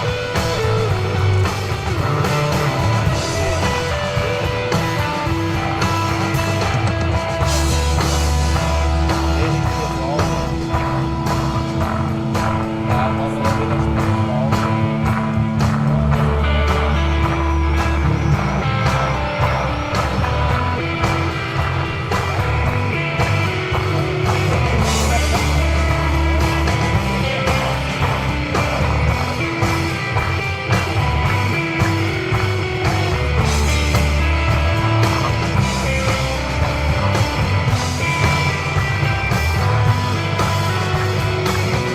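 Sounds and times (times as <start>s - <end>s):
bass: 0.0s - 41.9s
drum kit beat: 0.0s - 41.9s
electric guitar: 0.0s - 41.9s.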